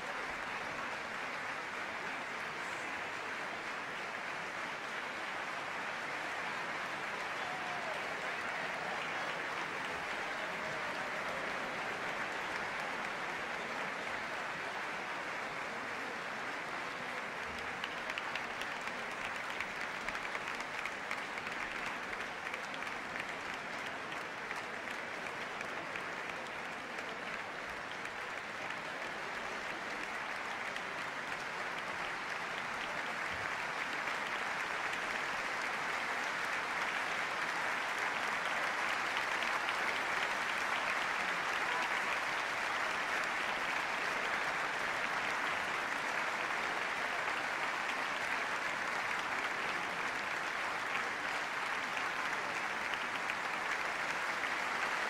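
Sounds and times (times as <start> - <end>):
audience applauding: 0.0 - 55.0.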